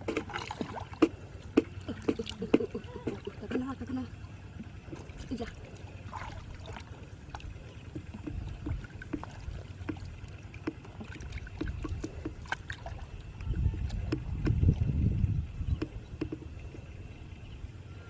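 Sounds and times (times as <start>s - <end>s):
low rumble: 0.0s - 18.0s
water splashing and sloshing: 0.0s - 18.0s.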